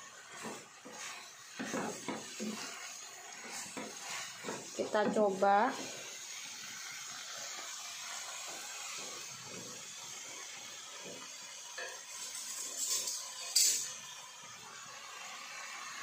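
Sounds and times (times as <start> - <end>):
noodles and vegetables frying: 0.0 - 16.0.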